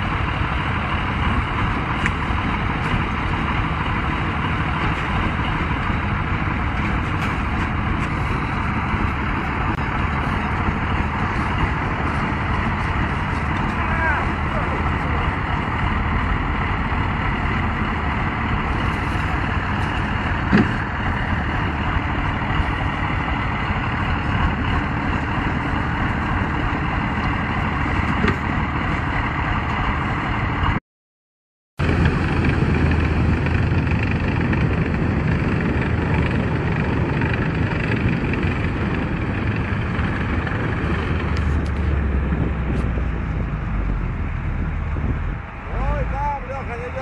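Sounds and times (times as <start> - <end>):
vehicle engine running: 0.0 - 30.8, 31.8 - 47.0.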